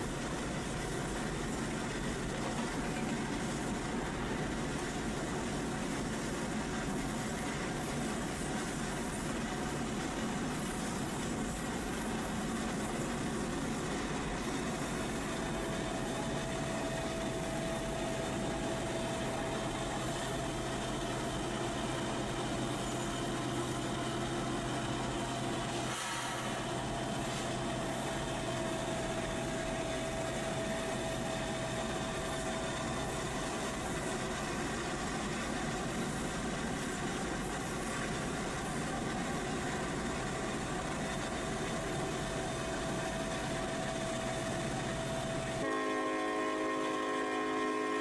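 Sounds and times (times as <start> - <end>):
freight train rumbling past: 0.0 - 48.0
thin steady whine: 0.0 - 48.0.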